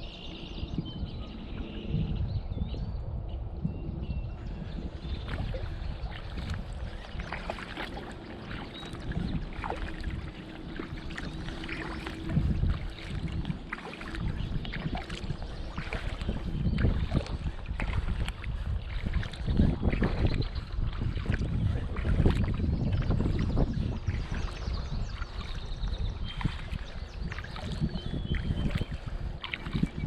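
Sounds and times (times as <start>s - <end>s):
wind rumble on microphone: 0.0s - 30.0s
paddle blades dipping in water: 4.8s - 30.0s
water splashing and dripping: 4.8s - 30.0s.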